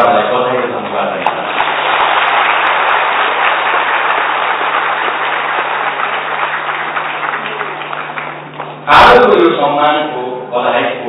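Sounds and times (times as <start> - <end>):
low electrical hum: 0.0 - 11.0
audience applauding: 0.3 - 9.2.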